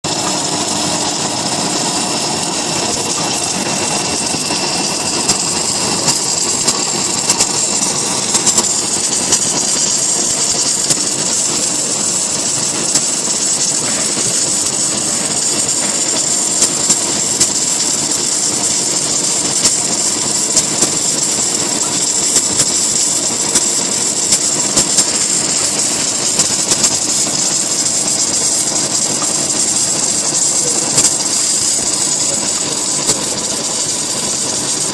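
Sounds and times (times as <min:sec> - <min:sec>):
machine hum: 0:00.0 - 0:34.9
welding hiss: 0:00.1 - 0:34.9.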